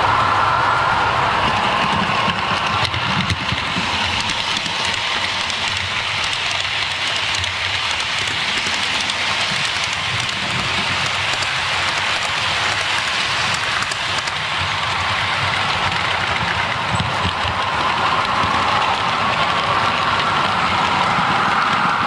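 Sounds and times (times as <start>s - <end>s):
model train wheels rattling: 1.5s - 22.0s.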